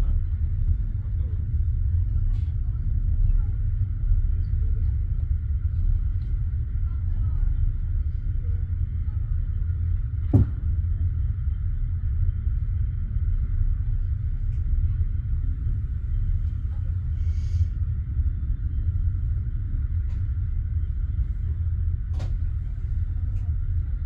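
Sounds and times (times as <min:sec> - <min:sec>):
train carriage rumble: 0:00.0 - 0:24.0.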